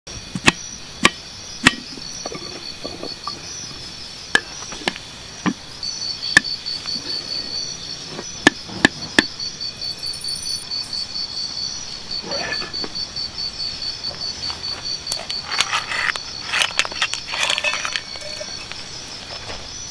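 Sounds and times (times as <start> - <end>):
insects trilling: 0.1 - 19.9.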